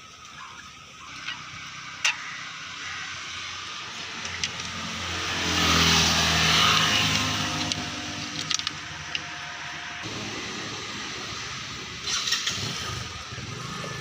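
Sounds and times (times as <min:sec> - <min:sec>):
vehicle engine running: 0:00.8 - 0:14.0.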